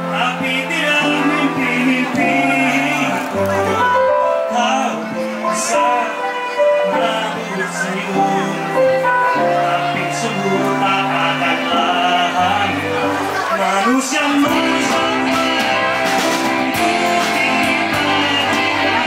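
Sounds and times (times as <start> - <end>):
man singing lead: 0.0 - 19.0
pop-rock band playing: 0.0 - 19.0.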